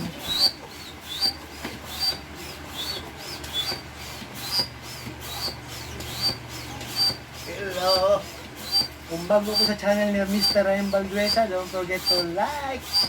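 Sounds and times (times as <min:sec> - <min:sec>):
air pump squeaking: 0:00.0 - 0:13.0.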